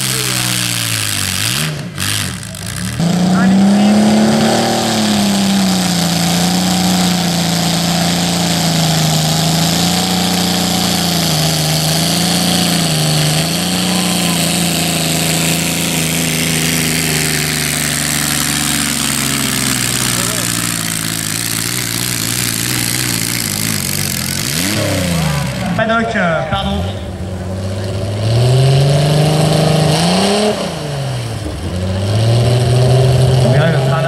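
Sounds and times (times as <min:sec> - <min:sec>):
tractor engine at high revs: 0:00.0 - 0:34.0.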